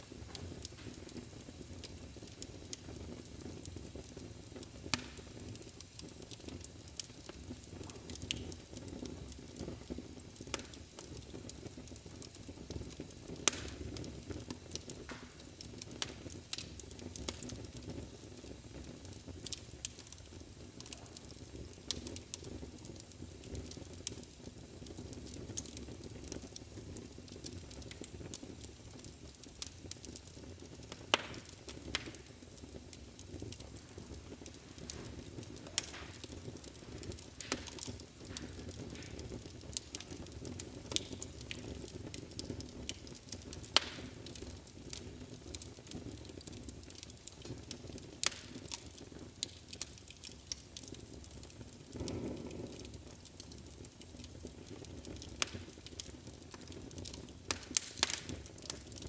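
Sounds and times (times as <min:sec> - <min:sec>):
burning logs crackling and popping: 0:00.0 - 0:59.0
fire flames rumbling: 0:00.0 - 0:59.0.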